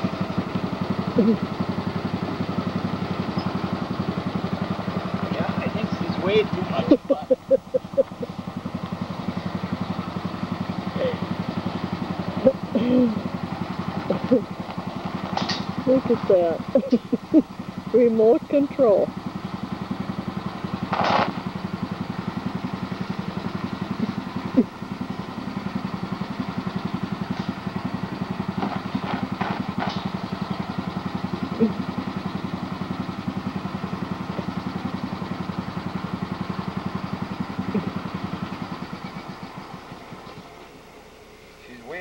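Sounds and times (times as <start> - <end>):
small engine idling: 0.0 - 42.0.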